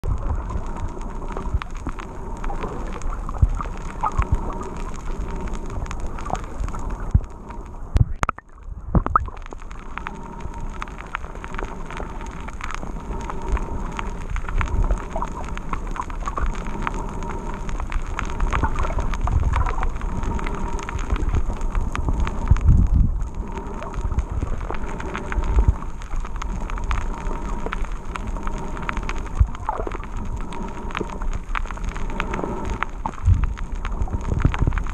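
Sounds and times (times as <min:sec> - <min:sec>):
muffled underwater water rumbles: 0:00.0 - 0:34.9
underwater sharp clicks crackling: 0:00.0 - 0:34.9.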